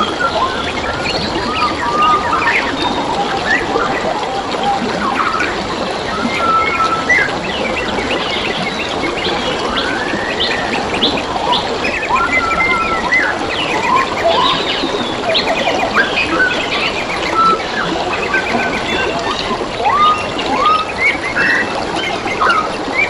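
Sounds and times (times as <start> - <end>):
flowing water rushing: 0.0 - 23.0
wild birds calling and singing: 0.0 - 23.0.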